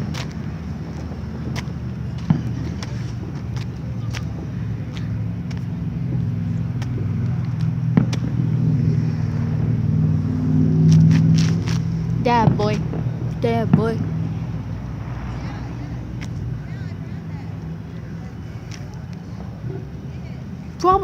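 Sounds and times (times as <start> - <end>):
distant fireworks popping: 0.0 - 9.8, 10.8 - 21.0.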